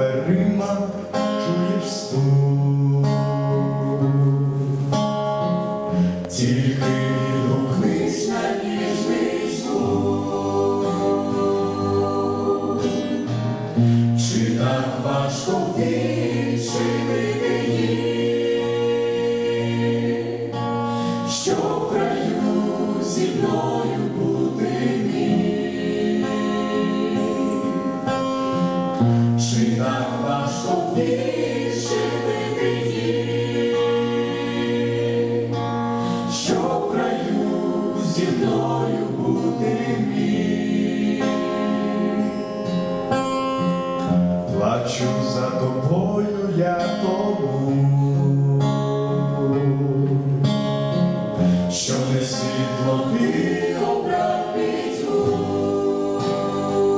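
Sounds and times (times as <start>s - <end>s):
choir singing a hymn in harmony: 6.2s - 48.4s, 49.0s - 56.9s.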